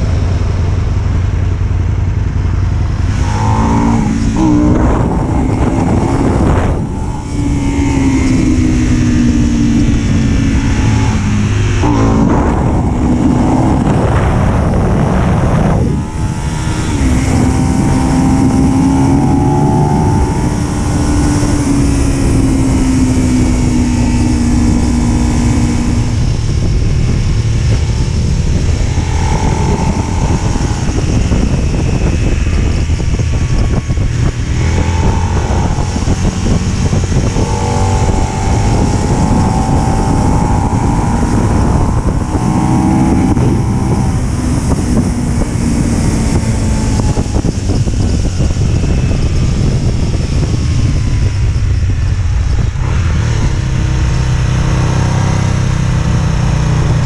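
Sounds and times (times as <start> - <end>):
motorcycle engine revving: 0.0 - 57.0
wind rushing over microphone: 0.0 - 57.0.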